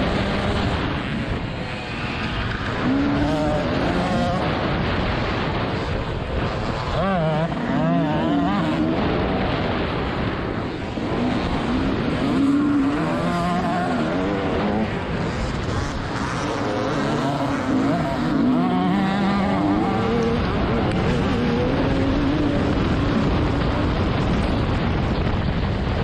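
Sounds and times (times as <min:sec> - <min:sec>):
motocross bike engine revving: 0:00.0 - 0:25.1
steady rushing noise: 0:00.0 - 0:26.0.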